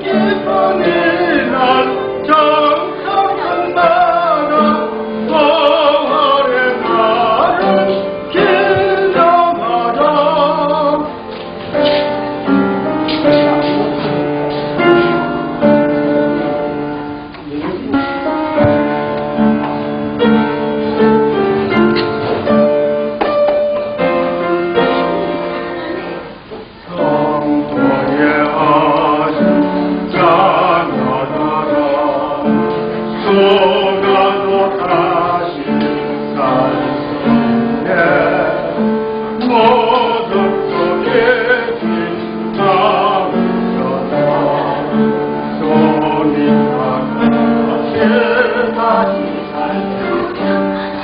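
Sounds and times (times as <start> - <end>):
voices singing a hymn: 0.0 - 17.0, 24.0 - 51.0
keyboard accompaniment: 0.0 - 51.0.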